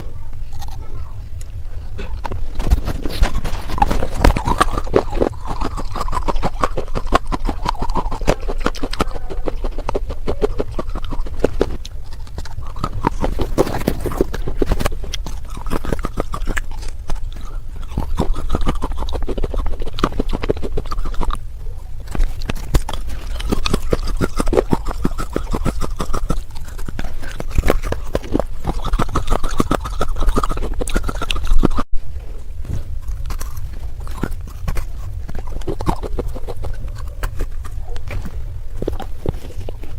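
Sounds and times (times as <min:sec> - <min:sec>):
person chewing clay crunches: 0:00.0 - 0:39.9.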